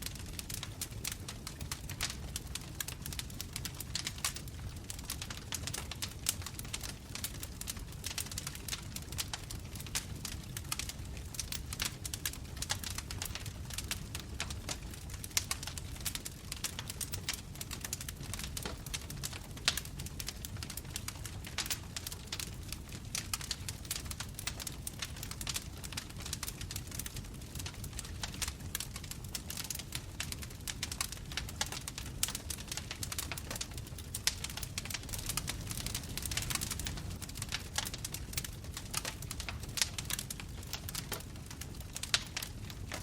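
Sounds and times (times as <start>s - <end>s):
bonfire crackling: 0.0s - 43.0s
low rumble of flame: 0.0s - 43.0s.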